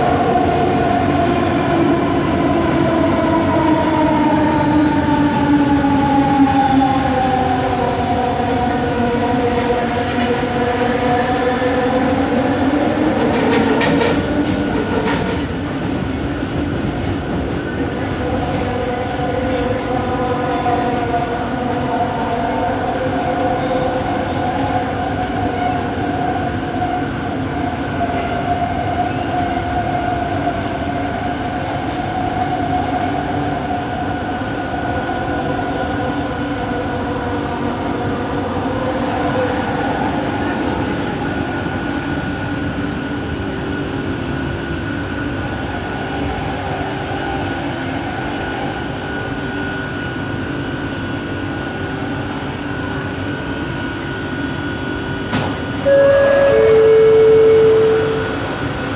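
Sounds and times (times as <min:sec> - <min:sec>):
train wheels rumbling on track: 0:00.0 - 0:58.9.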